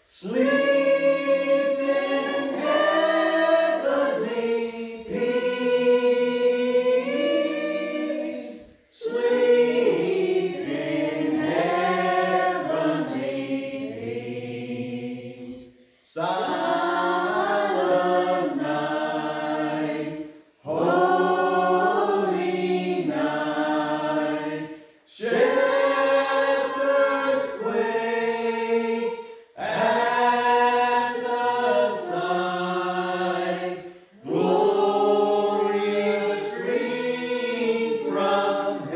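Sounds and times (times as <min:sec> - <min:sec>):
group singing a carol unaccompanied: 0:00.0 - 0:38.9.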